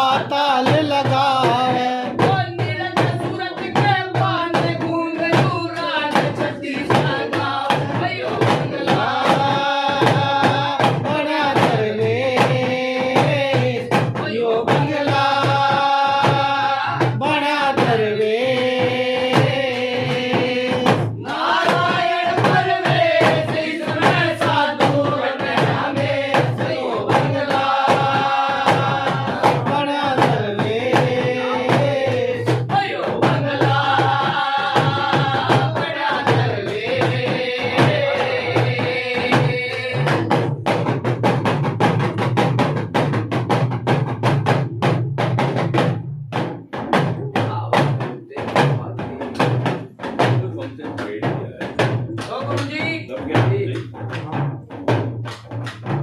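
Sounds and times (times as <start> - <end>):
steady drum beats: 0.0 - 56.0.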